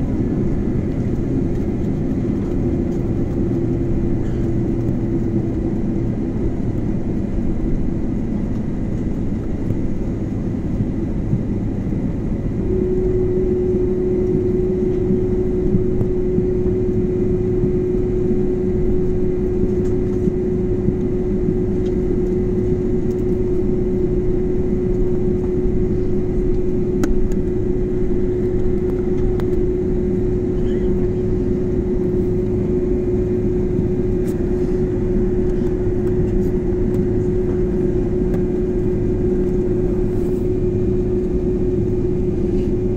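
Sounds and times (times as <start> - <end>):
jet engines rumbling: 0.0 - 42.9
steady hum: 0.0 - 42.9.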